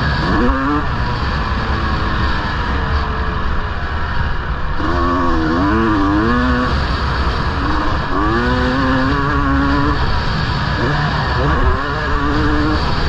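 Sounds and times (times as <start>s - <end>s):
two-stroke engine revving: 0.0s - 3.4s, 4.8s - 13.0s.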